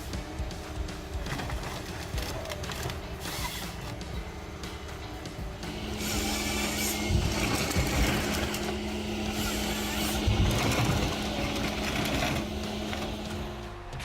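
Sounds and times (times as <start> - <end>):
heavy machine engine humming: 0.0 - 14.0
rough machine working noise: 0.0 - 14.0.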